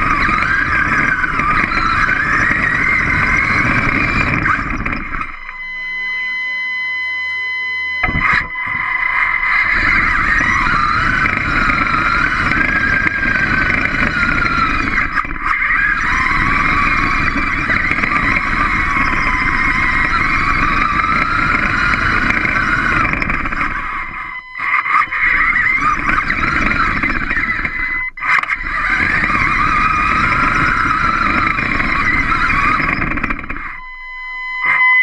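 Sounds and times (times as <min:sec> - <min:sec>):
wheels and gears rumbling: 0:00.0 - 0:06.5, 0:08.0 - 0:34.8
electric motors whining: 0:00.0 - 0:35.0.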